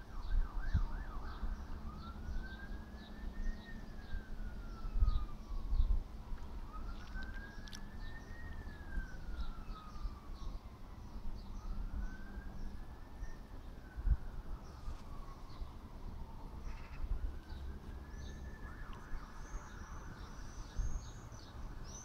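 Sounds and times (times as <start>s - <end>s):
emergency vehicle siren: 0.0s - 22.0s.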